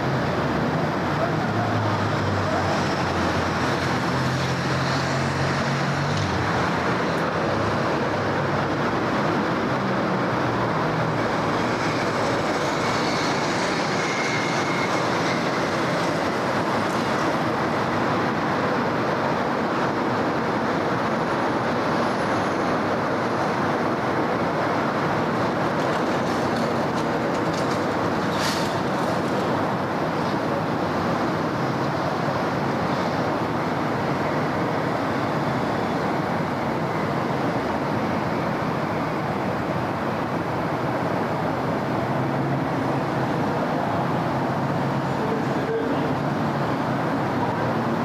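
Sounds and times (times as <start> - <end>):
cars passing: 0.0 - 48.0.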